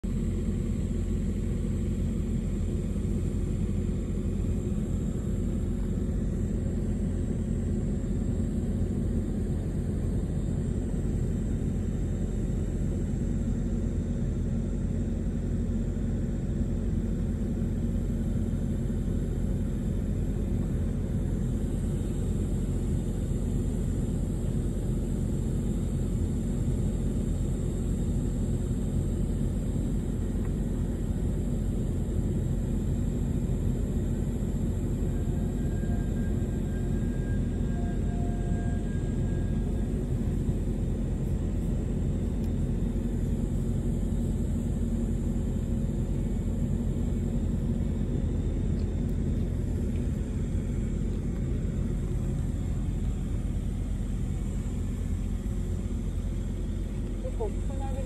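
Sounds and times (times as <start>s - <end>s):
low rumble of outdoor background noise: 0.0s - 58.0s.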